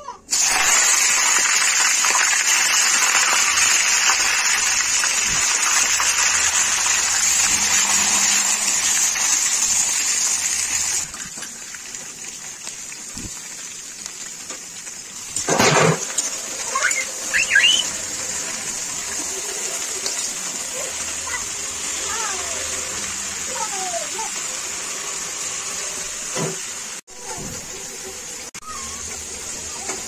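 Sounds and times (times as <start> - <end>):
vegetables sizzling in hot oil: 0.3 - 30.0.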